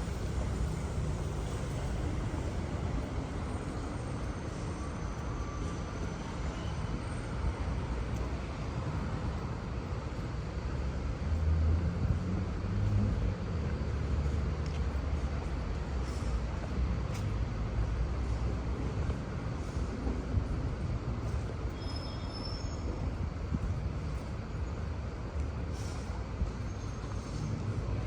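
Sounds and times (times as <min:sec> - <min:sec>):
road and engine traffic noise: 0:00.0 - 0:28.0.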